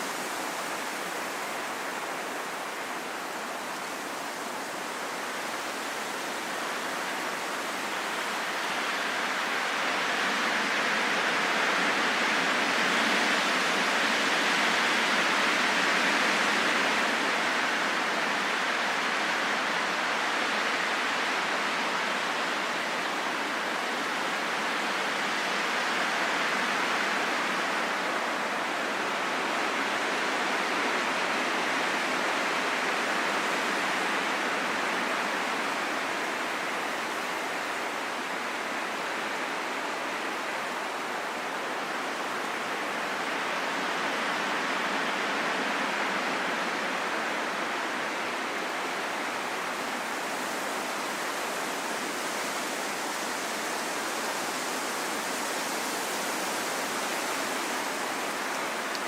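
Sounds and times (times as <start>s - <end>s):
wind rushing in soft hiss: 0.0s - 59.0s.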